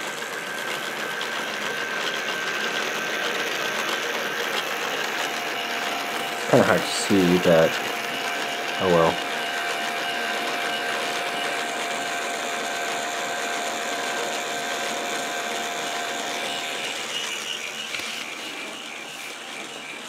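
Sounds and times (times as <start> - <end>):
motor and plastic gears whirring: 0.0 - 20.0.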